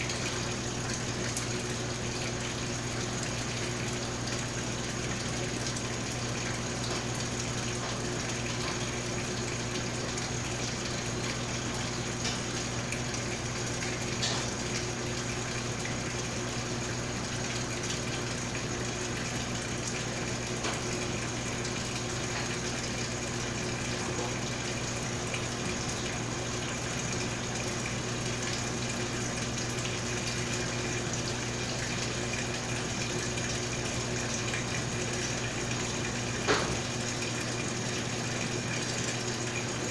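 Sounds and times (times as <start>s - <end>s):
washing machine low hum: 0.0s - 39.9s
water rushing into tub: 0.0s - 39.9s.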